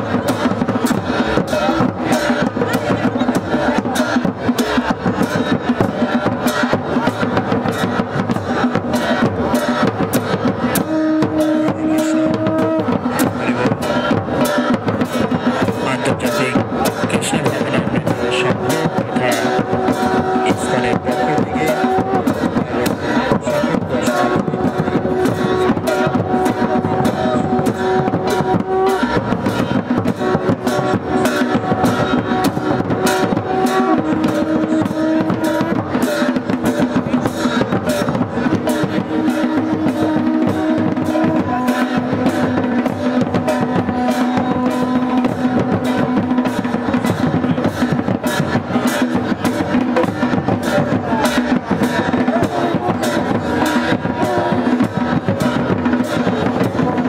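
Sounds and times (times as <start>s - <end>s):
fast steady drumming: 0.0s - 57.0s.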